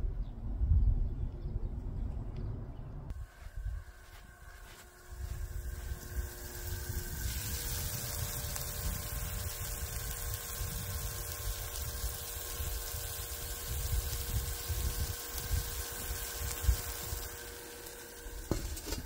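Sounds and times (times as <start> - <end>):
chicken sizzling on a grill: 3.7 - 19.0.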